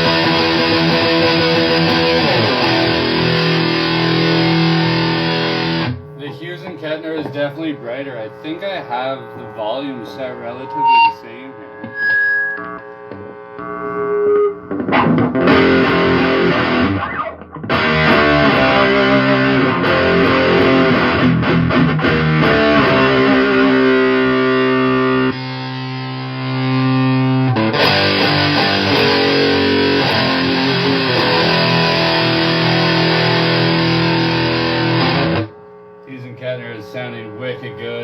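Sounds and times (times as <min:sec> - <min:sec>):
fuzz distorted electric guitar: 0:00.0 - 0:38.0.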